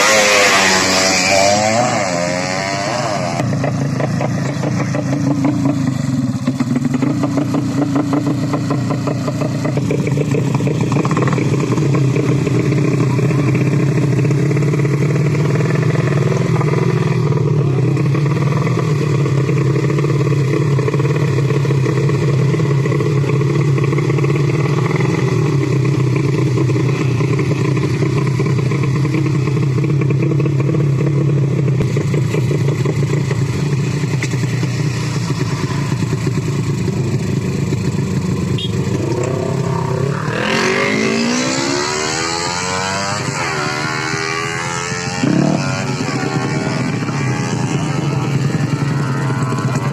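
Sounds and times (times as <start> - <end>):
racing motorcycle engines: 0.0 - 49.9.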